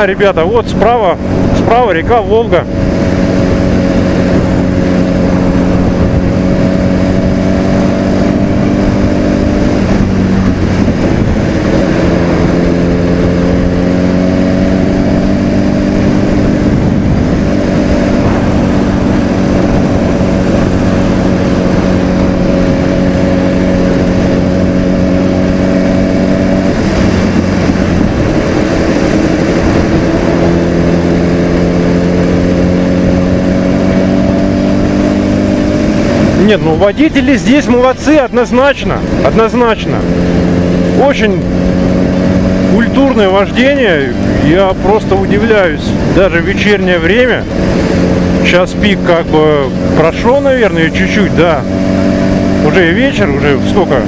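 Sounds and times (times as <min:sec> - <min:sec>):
motorcycle engine riding: 0:00.0 - 0:54.0.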